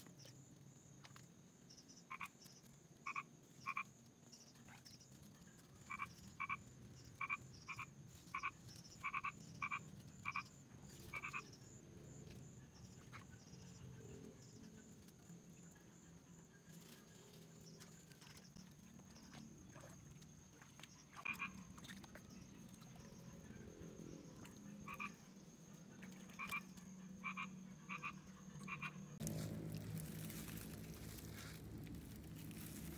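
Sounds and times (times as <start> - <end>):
frogs croaking: 1.7 - 32.9.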